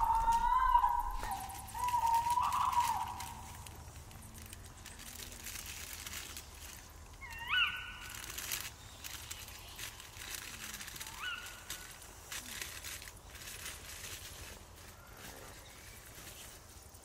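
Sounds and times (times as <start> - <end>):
plastic bag rustling: 0.0 - 7.4, 8.0 - 16.7.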